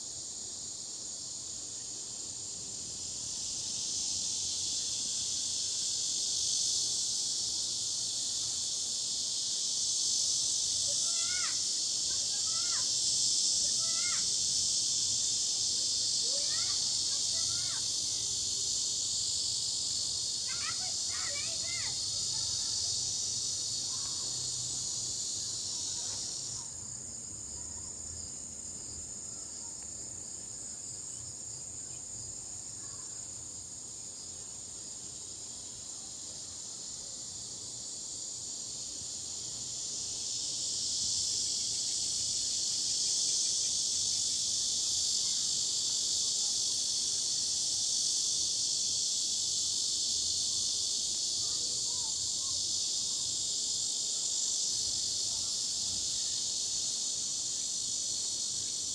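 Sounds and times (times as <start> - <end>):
insects chirping in chorus: 0.0 - 58.9.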